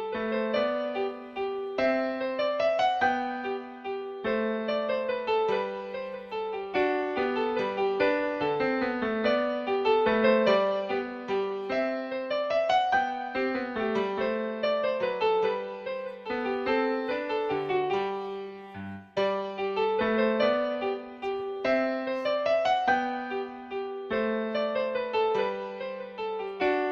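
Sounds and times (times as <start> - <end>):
lively piano music: 0.0 - 26.9.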